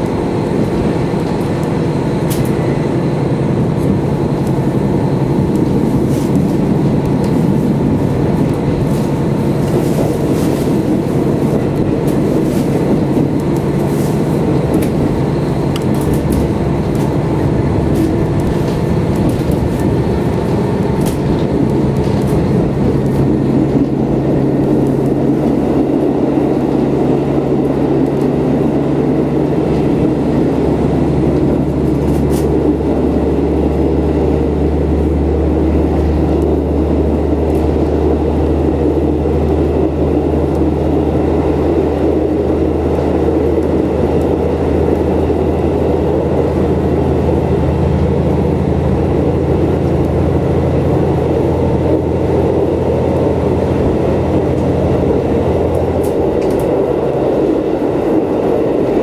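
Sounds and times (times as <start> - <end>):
diesel engine hum: 0.0 - 59.0
train wheels rumbling on rails: 0.0 - 59.0.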